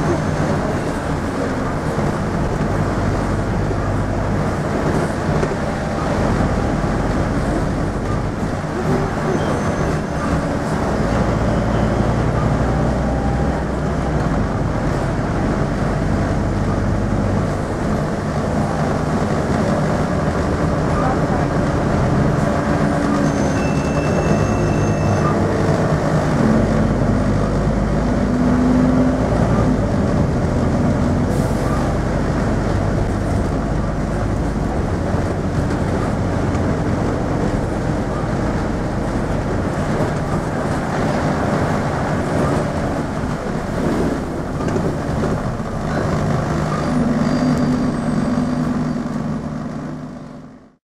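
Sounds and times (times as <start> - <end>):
bus diesel engine pulling hard: 0.0 - 50.8
road noise: 0.0 - 50.8.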